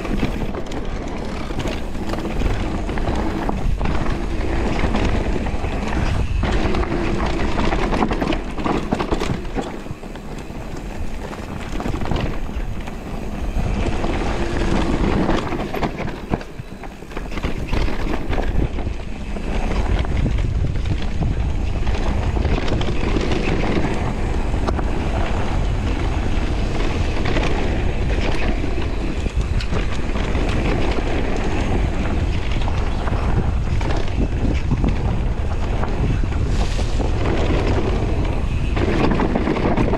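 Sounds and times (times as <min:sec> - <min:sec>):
bike rattles and knocks: 0:00.0 - 0:39.9
bike tyres rolling on dirt trail: 0:00.0 - 0:39.9
wind buffeting microphone: 0:00.0 - 0:39.9.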